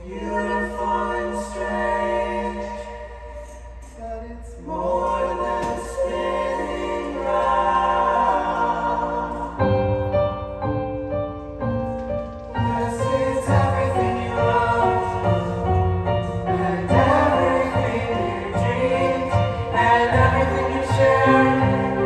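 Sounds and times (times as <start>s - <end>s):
choir singing harmonies: 0.0s - 22.0s.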